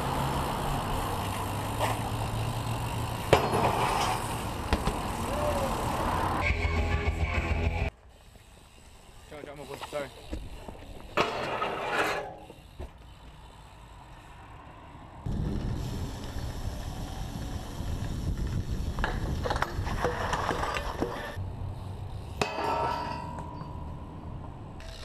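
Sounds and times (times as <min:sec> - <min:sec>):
bike clacking and rattling: 0:00.0 - 0:06.4, 0:08.1 - 0:13.8, 0:15.3 - 0:25.0
bike tyres rolling on concrete: 0:00.0 - 0:07.2, 0:07.8 - 0:25.0.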